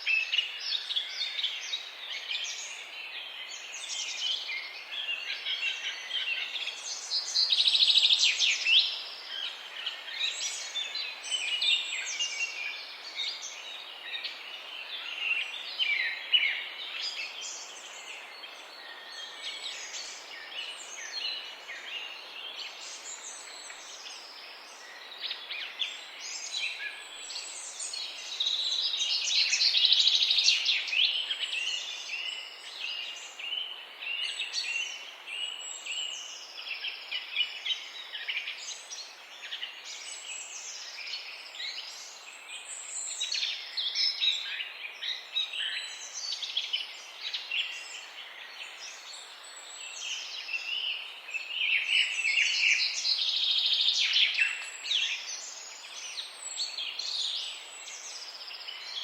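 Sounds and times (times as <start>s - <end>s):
faint outdoor hiss: 0.0s - 59.0s
songbirds chirping and trilling: 0.0s - 59.0s.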